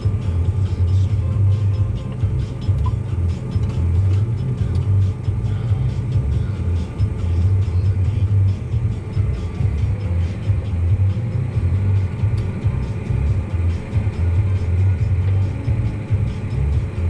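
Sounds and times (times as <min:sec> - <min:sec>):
background music: 0:00.0 - 0:17.0
tractor engine droning: 0:00.0 - 0:17.0.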